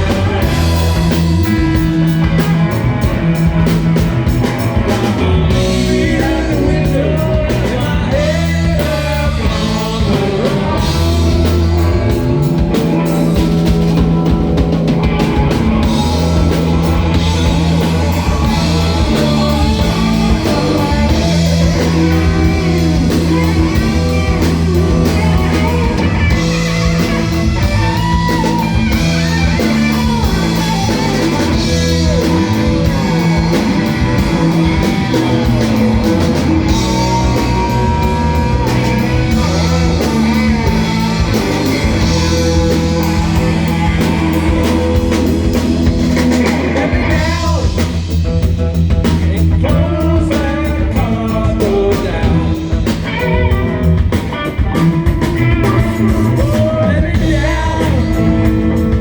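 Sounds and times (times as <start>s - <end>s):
person singing: 0.0s - 14.4s, 15.1s - 59.0s
blues-rock band playing: 0.0s - 59.0s.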